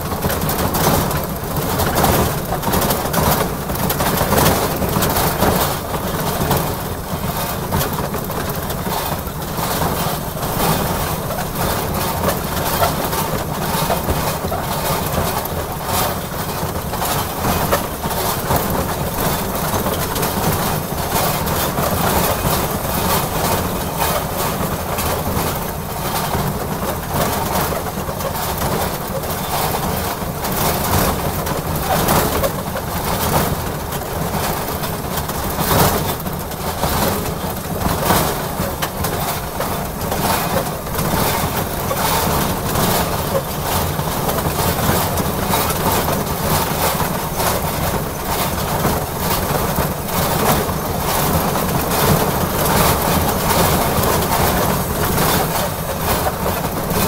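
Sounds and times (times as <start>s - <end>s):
miniature locomotive running: 0.0s - 57.0s.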